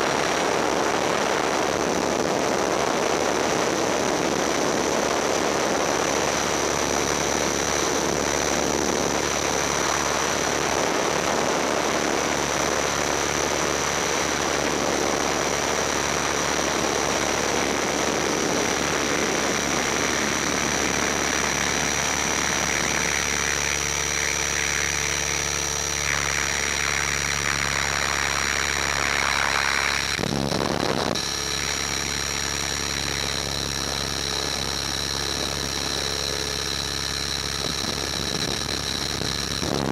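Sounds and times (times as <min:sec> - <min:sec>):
low humming tones: 0:00.0 - 0:39.9
model helicopter rotor whirring: 0:00.0 - 0:39.9.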